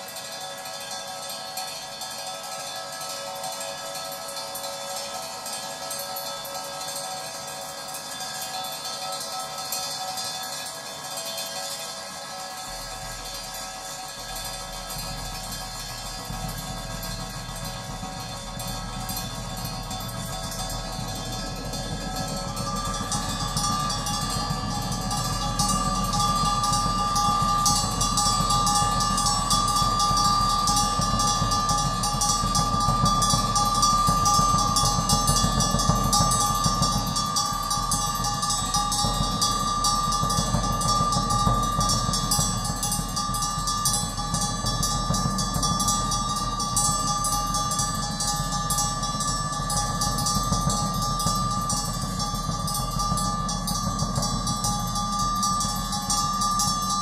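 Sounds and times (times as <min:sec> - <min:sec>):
cymbal wash: 0:00.0 - 0:57.0
steady high sustained tone: 0:00.0 - 0:57.0.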